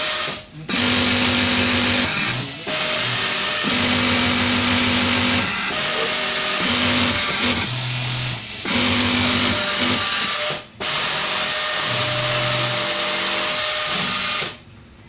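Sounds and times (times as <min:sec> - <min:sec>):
sewing machine running: 0:00.0 - 0:14.6.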